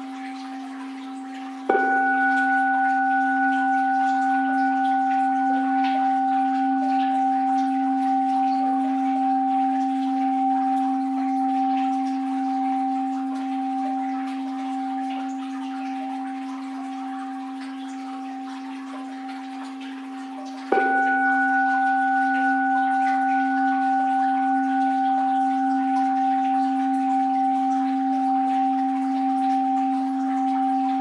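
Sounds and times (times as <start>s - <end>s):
faint water patter: 0.0s - 31.0s
standing bell ringing: 1.7s - 18.5s, 20.7s - 31.0s.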